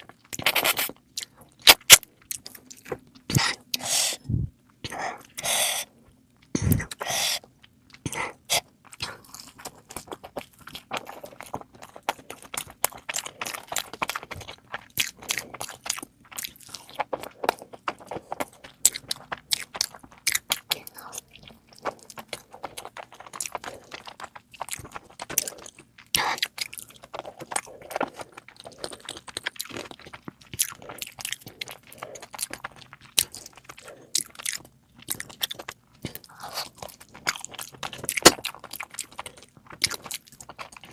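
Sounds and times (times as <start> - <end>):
person chewing and crunching food: 0.0 - 40.9.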